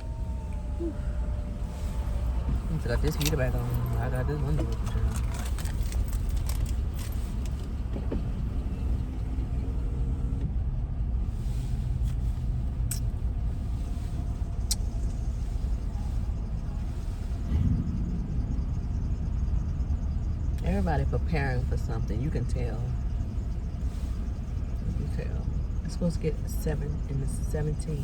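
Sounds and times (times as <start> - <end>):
car cabin rumble: 0.0 - 28.0.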